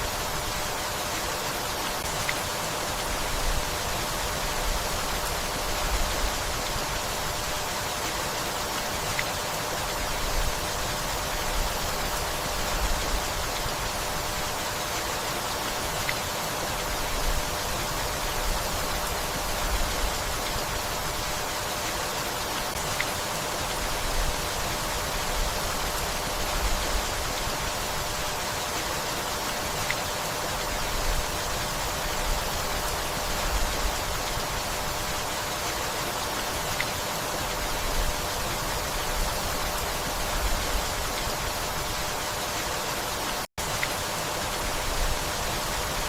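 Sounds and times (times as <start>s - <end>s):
gentle rain on leaves: 0.0s - 46.0s.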